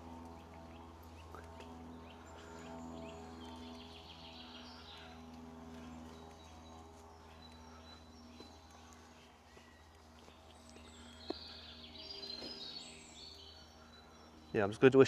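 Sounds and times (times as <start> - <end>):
faint woodland birdsong: 0.0 - 15.0.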